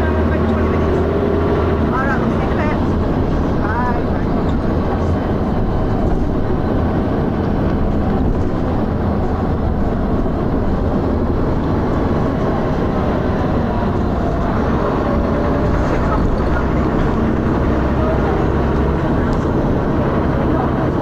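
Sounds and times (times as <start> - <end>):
bus diesel engine rattling: 0.0 - 21.0.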